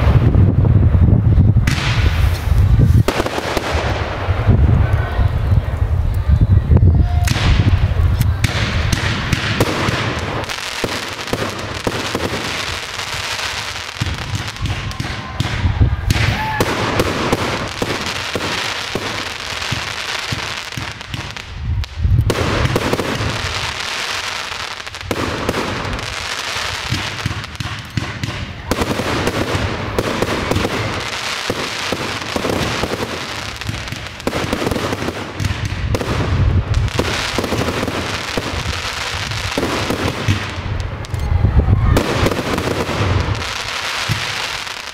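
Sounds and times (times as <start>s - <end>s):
deep fireworks booms: 0.0s - 44.9s
fireworks crackling and popping: 0.0s - 44.9s.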